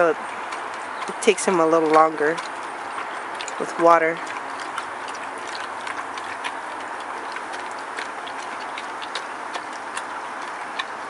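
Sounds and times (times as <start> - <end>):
dog crunching kibble: 0.0 - 11.0
kibble clicking on metal bowl: 0.5 - 10.9.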